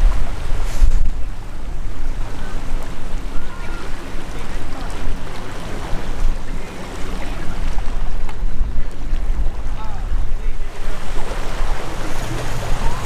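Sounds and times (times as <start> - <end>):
water noise: 0.0 - 13.0
wind buffeting microphone: 0.0 - 13.0.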